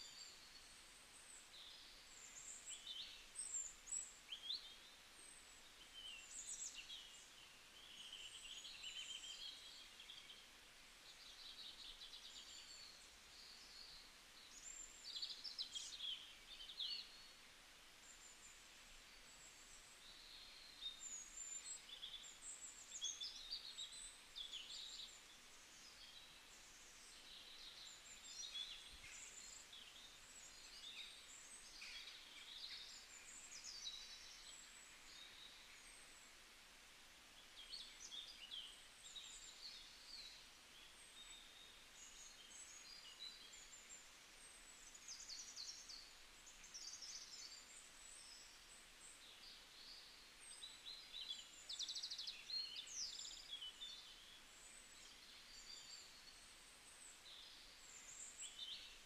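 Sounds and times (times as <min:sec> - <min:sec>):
low hiss: 0:00.0 - 0:59.0
small birds chirping: 0:00.0 - 0:59.0.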